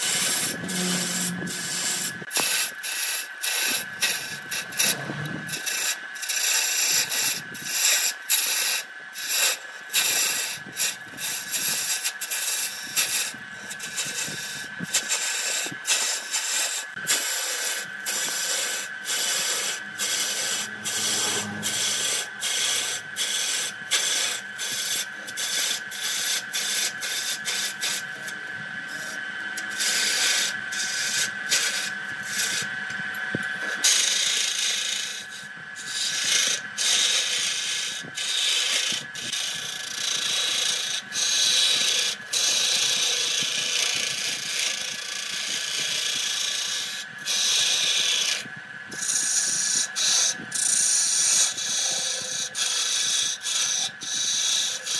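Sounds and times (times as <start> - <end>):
lathe gouge cutting wood: 0.0 - 7.4, 10.0 - 32.9, 33.6 - 54.9
steady high whine: 0.0 - 8.0, 9.7 - 47.4.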